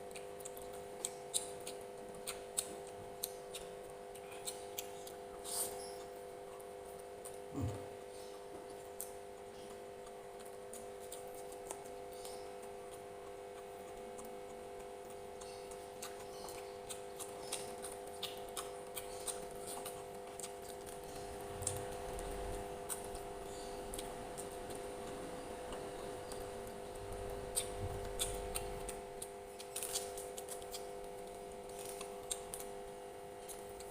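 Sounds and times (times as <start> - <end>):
chewing and mouth smacks: 0.0 - 33.9
steady background hum: 0.0 - 33.9.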